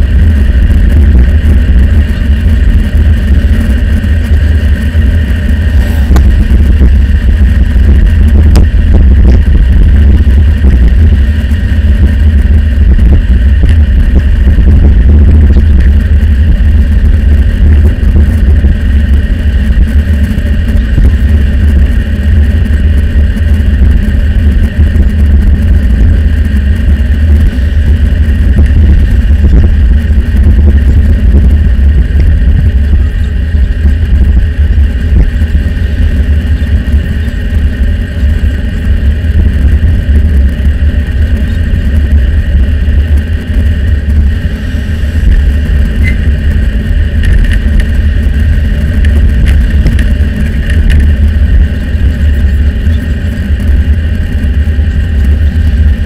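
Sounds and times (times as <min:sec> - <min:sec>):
faint steady higher hum: 0:00.0 - 0:56.0
wind buffeting microphone: 0:00.0 - 0:56.0.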